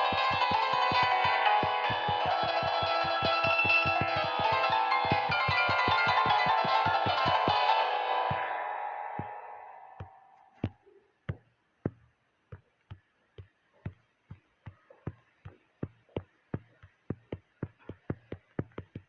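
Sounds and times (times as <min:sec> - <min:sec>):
sharp knocks speeding up: 0:00.0 - 0:19.0.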